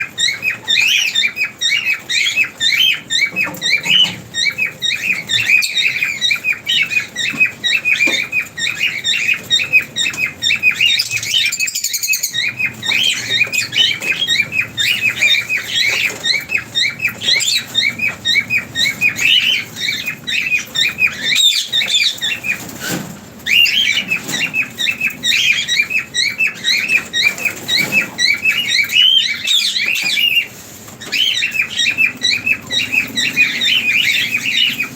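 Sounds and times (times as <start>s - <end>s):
lovebirds chirping: 0.0s - 34.9s.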